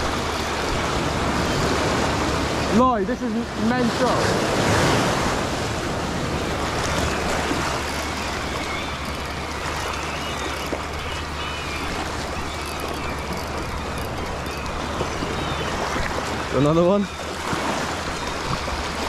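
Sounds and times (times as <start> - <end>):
sea waves washing over rocks: 0.0 - 19.0.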